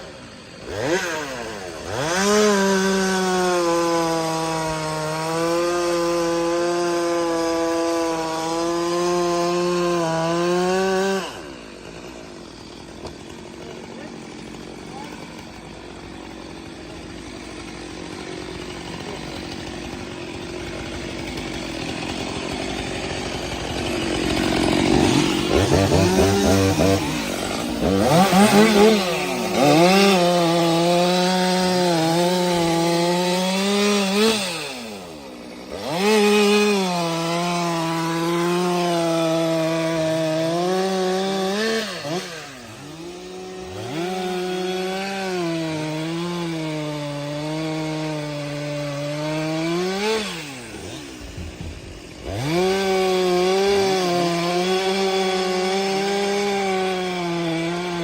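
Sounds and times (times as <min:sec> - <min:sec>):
chainsaw cutting firewood: 0:00.0 - 0:58.0.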